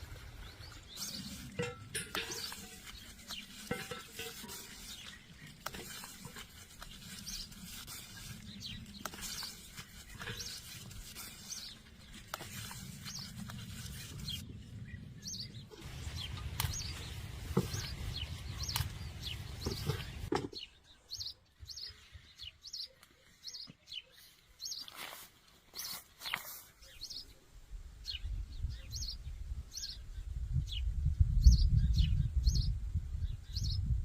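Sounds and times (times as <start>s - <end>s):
small birds chirping: 0.0s - 27.4s, 28.0s - 34.0s.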